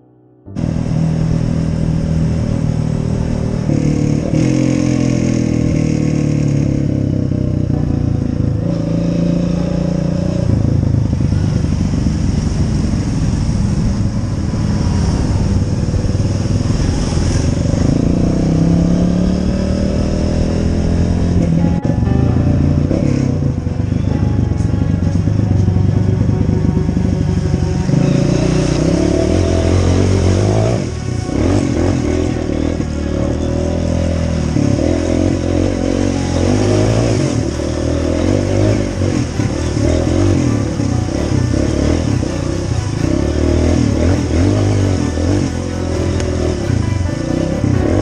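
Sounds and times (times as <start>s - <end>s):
dirt bike engine revving: 0.6s - 8.0s, 8.6s - 21.9s, 26.4s - 48.0s.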